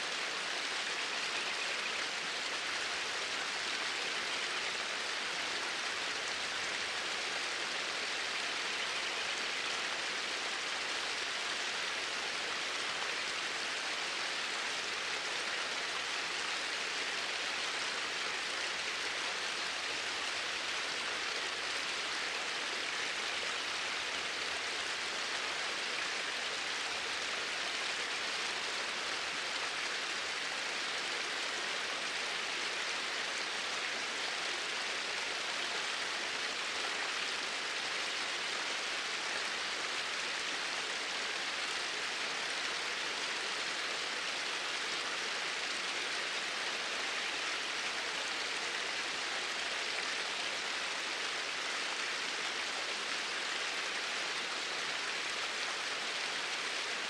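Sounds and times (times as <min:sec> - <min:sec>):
water flowing steadily: 0:00.0 - 0:57.0.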